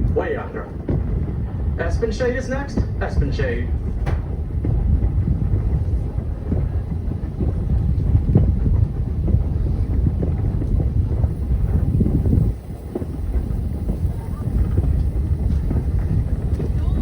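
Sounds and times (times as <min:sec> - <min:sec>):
train car rumbling on rails: 0:00.0 - 0:17.0
wind buffeting microphone: 0:00.0 - 0:17.0.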